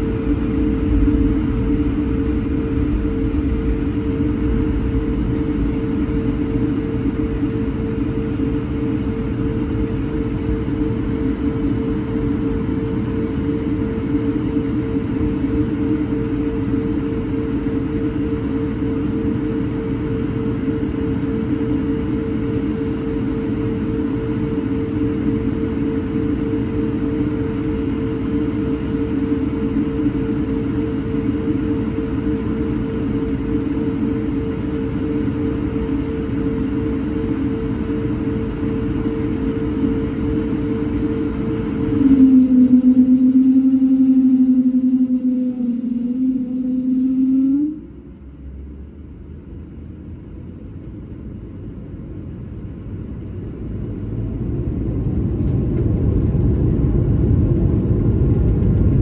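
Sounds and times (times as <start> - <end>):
jet engines idling in cabin: 0.0 - 59.0.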